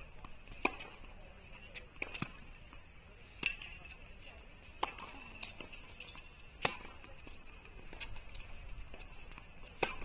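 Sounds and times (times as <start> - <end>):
tennis ball bouncing: 0.0 - 10.0
tennis racket hitting ball: 0.1 - 1.1, 1.8 - 2.8, 3.4 - 4.0, 4.6 - 10.0.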